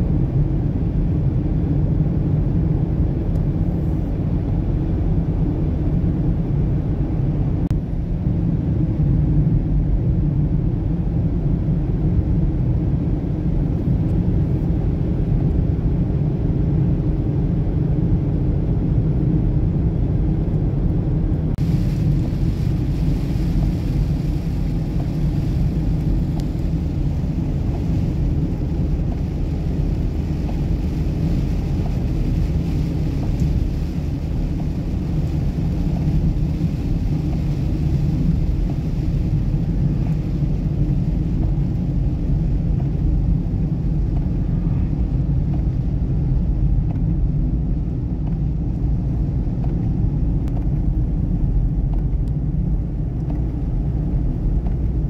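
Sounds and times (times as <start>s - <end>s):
car cabin road and engine noise: 0.0s - 55.0s.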